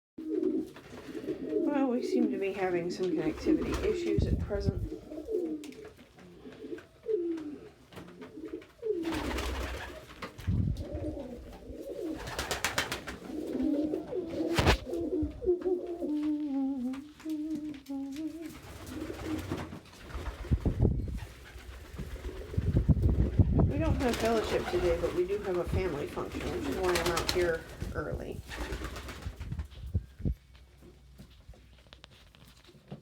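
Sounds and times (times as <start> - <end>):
pigeons cooing: 0.2 - 19.7, 21.1 - 29.2.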